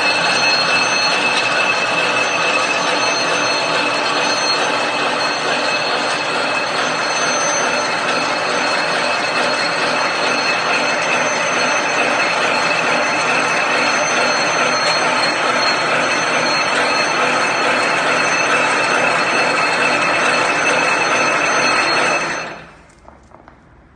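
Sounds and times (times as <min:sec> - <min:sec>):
machine rapid metallic clatter: 0:00.0 - 0:22.8
high-pitched machine whines: 0:00.0 - 0:22.9.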